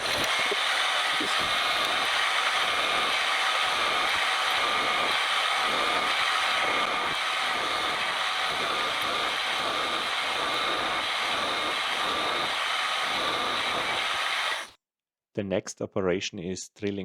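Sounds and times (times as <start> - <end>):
milling machine whining: 0.0 - 14.7.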